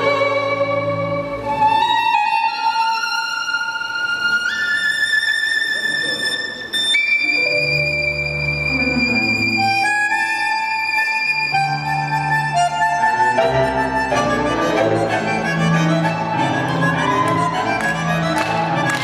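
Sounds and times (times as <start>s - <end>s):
tango music with violin: 0.0s - 19.0s.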